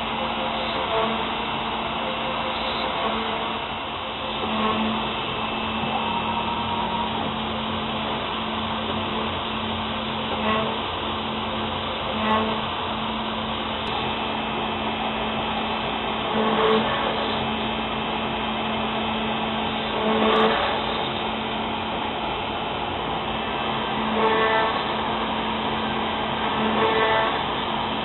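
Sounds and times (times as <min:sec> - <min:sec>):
cnc router cutting plastic: 0:00.0 - 0:28.0.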